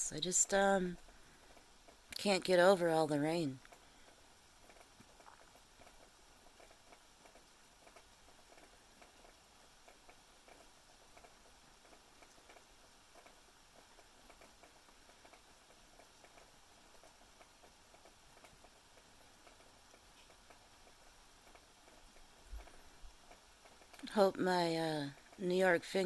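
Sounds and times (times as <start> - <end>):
faint rain patter: 0.0 - 26.0.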